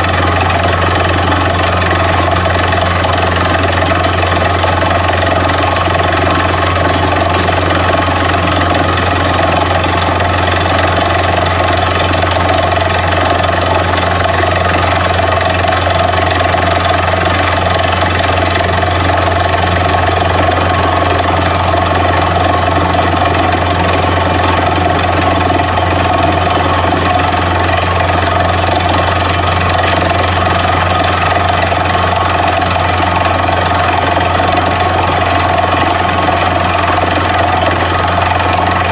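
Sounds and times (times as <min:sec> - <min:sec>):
drilling rig engine droning: 0:00.0 - 0:38.9.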